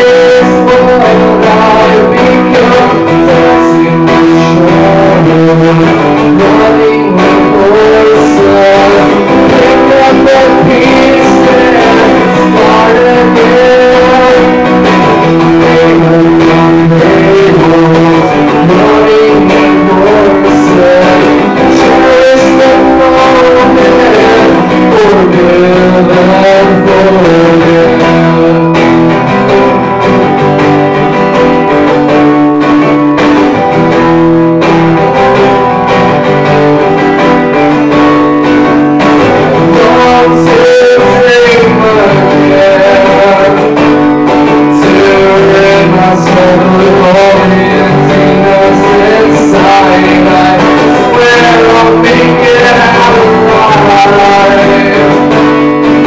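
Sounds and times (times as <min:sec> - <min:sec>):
acoustic guitar: 0:00.0 - 0:56.0
man singing: 0:00.0 - 0:56.0.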